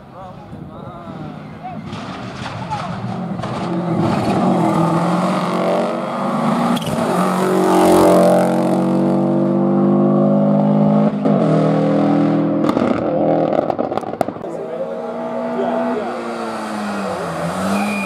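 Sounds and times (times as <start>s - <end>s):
rally car engine under hard throttle: 1.1s - 18.0s.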